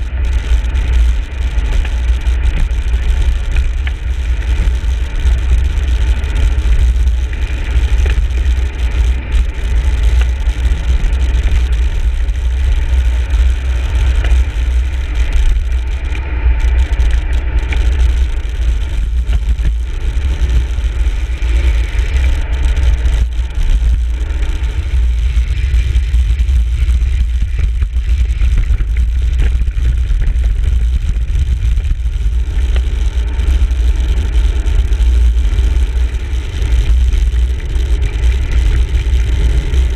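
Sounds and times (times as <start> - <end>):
road and tyre hiss: 0.0 - 39.9
wind rumbling on microphone: 0.0 - 39.9.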